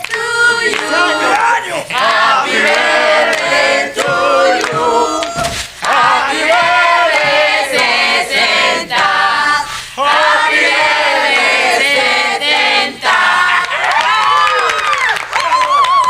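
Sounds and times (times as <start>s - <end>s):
women singing in chorus: 0.0s - 13.7s.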